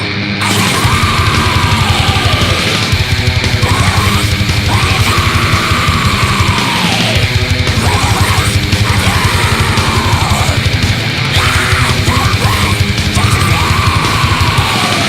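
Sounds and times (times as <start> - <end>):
distorted electric guitar: 0.0 - 15.0
fast drum beat: 0.4 - 15.0.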